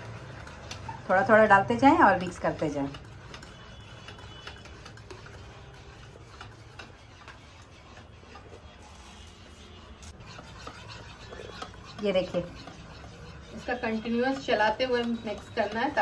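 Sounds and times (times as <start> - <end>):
wire whisk scraping a bowl: 0.0 - 16.0.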